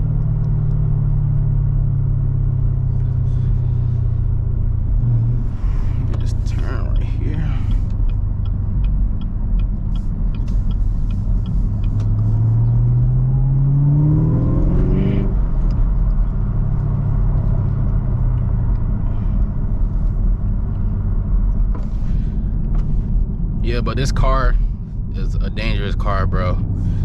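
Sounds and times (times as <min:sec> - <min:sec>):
turn signal ticking: 0:00.0 - 0:26.8
car engine accelerating: 0:00.0 - 0:27.0.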